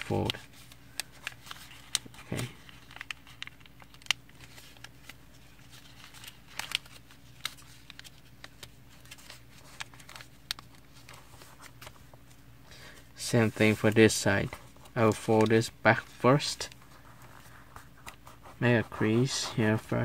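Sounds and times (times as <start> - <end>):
paper crinkling and tapping: 0.0 - 12.4, 13.4 - 20.0
faint background hum: 0.0 - 20.0.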